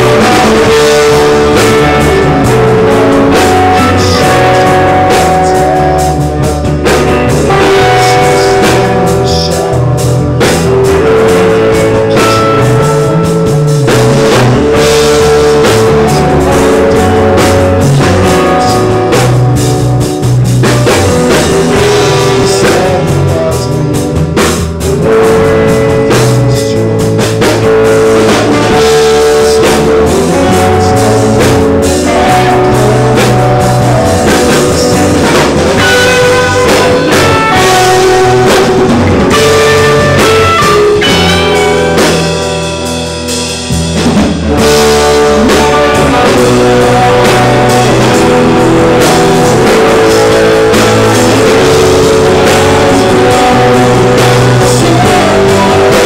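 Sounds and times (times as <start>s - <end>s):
electric guitar: 0.0s - 56.0s
rock band playing: 0.0s - 56.0s.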